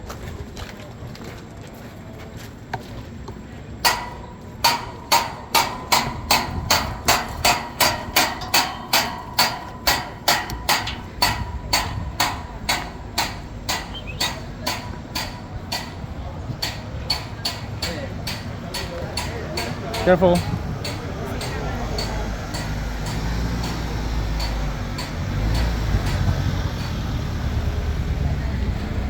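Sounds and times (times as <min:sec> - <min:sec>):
sharp ringing knocks: 0:03.8 - 0:27.2.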